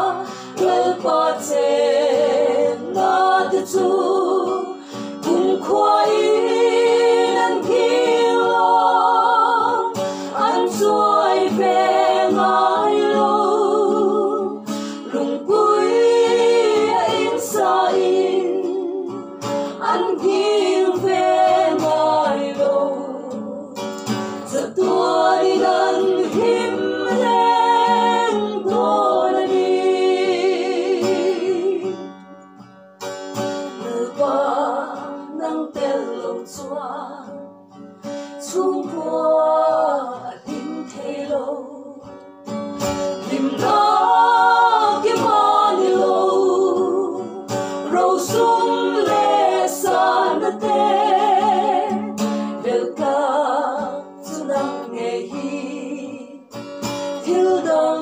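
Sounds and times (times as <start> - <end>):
women singing in harmony: 0.0 - 32.1, 33.7 - 37.5, 38.1 - 42.2, 42.8 - 58.0
acoustic guitar: 0.0 - 58.0.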